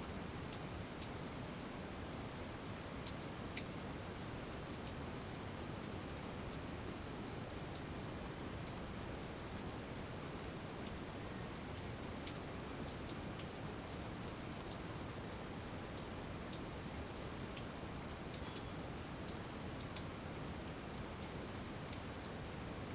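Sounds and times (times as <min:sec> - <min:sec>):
steady rain hissing: 0:00.0 - 0:22.9.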